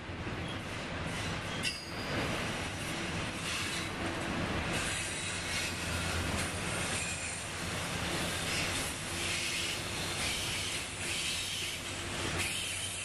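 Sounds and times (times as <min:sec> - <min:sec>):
freight train passing: 0:00.0 - 0:13.0.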